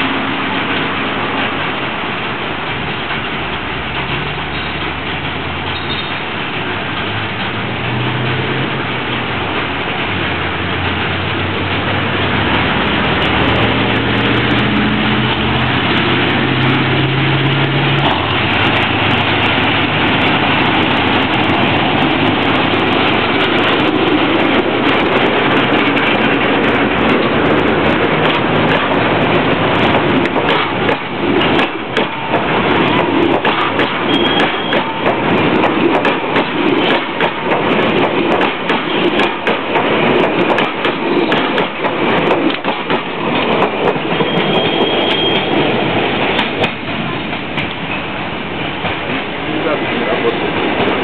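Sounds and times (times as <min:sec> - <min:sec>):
diesel locomotive engine revving: 0:00.0 - 0:51.0
train rumbling past: 0:00.0 - 0:51.0
wheels clicking over rail joints: 0:00.0 - 0:51.0.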